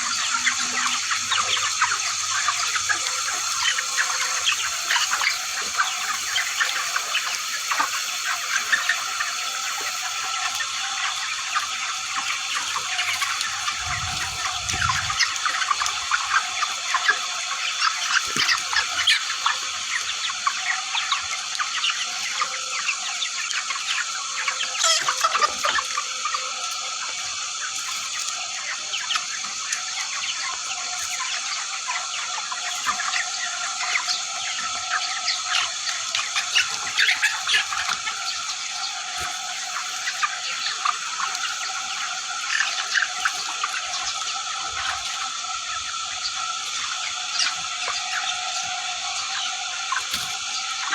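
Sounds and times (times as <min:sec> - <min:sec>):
flock of chickens clucking: 0:00.0 - 0:50.9.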